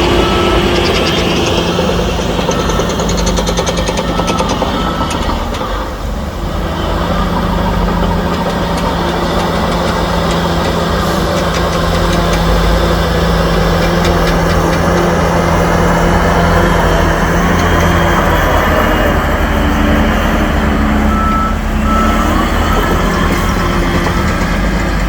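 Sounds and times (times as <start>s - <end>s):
heavy diesel engine drone: 0.0s - 25.0s.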